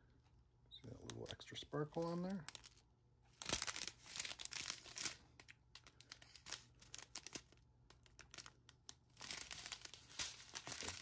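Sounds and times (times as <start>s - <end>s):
plastic bags crinkling: 1.9s - 11.0s.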